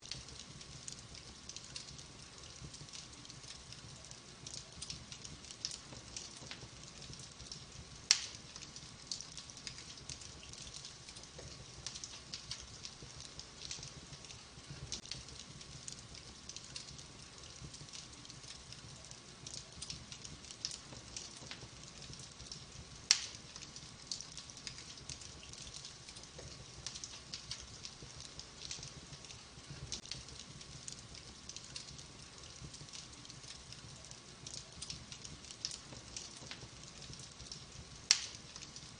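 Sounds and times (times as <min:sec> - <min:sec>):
wood fire hissing and crackling: 0:00.0 - 0:38.9
loud fire pops: 0:04.5 - 0:18.4, 0:19.5 - 0:33.4, 0:34.5 - 0:38.9.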